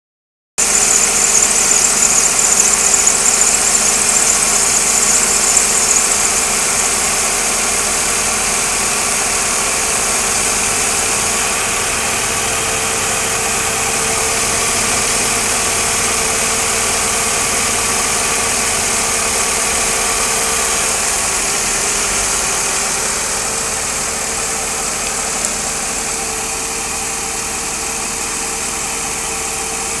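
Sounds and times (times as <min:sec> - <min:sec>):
car engine idling: 0:00.6 - 0:30.0.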